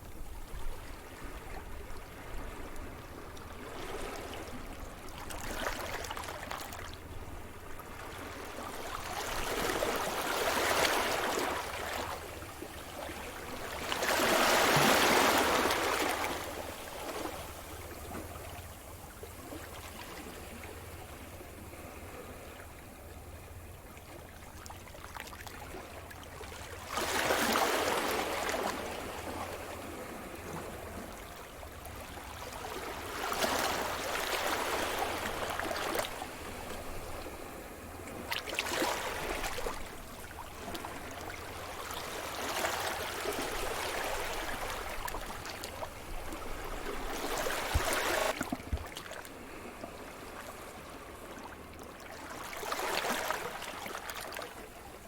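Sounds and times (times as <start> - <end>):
waves breaking and washing in: 0.0 - 55.0.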